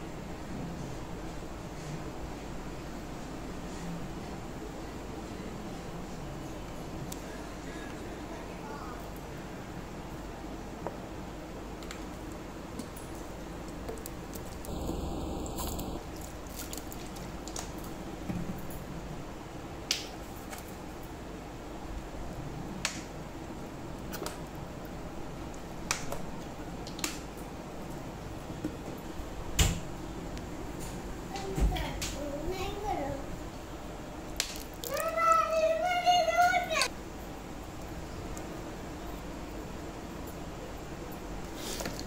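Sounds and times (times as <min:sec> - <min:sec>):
low room hum: 0:00.0 - 0:42.0.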